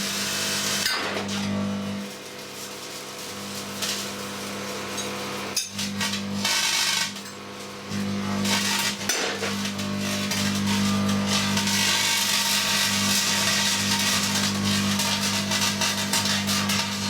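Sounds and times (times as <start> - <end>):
microwave transformer hum: 0.0 - 17.0.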